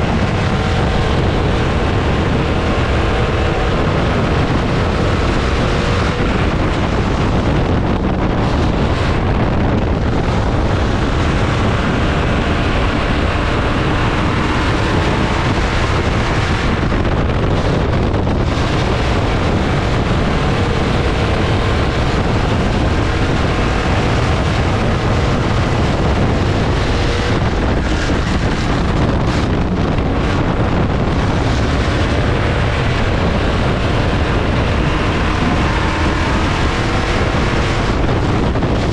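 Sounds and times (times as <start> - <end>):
race car engines: 0.0 - 38.9
wind buffeting microphone: 0.0 - 38.9.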